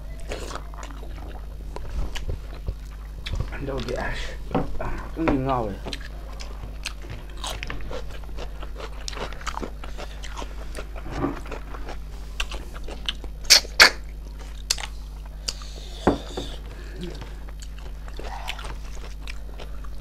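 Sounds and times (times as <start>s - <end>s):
chewing with small crunches: 0.0s - 4.2s, 4.8s - 20.0s.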